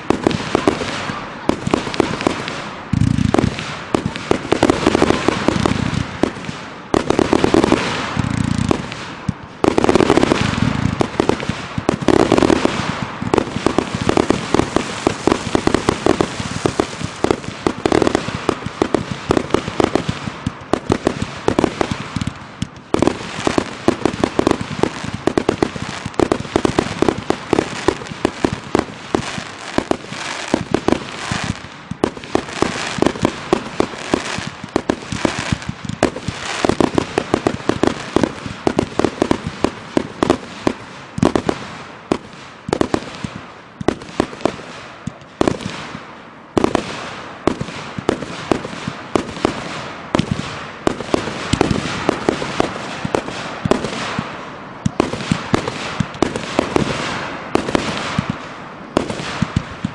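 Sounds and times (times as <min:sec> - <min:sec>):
firework cake firing bangs: 0:00.0 - 0:59.9.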